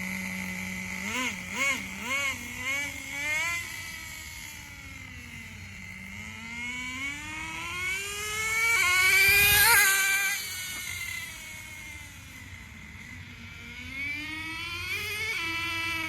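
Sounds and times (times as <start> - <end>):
model car engine whining: 0.0 - 16.0.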